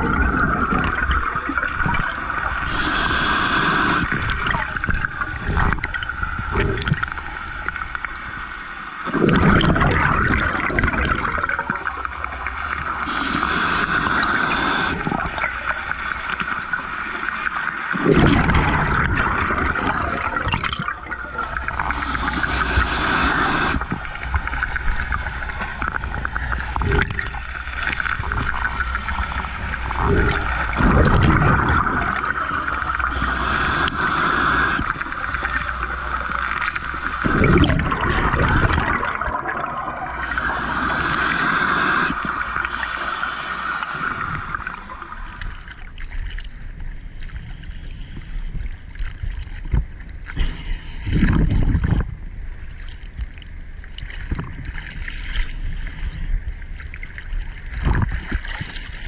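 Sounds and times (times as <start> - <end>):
underwater bubbles gurgling: 0.0 - 59.0
waves splashing against camera: 0.0 - 59.0.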